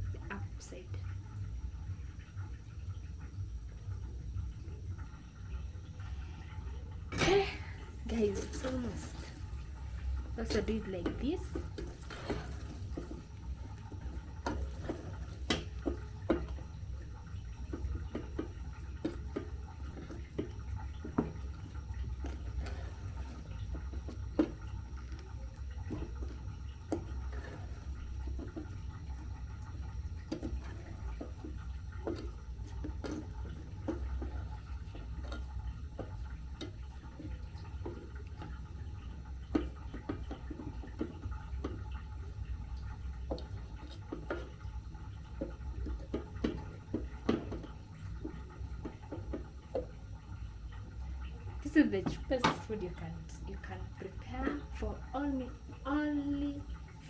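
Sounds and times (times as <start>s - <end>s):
pot rumbling: 0.0s - 57.0s.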